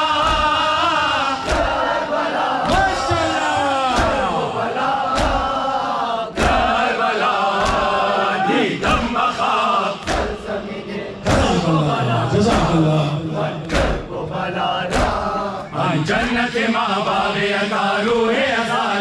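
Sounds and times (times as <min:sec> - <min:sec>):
mourners chanting in unison: 0:00.0 - 0:19.0.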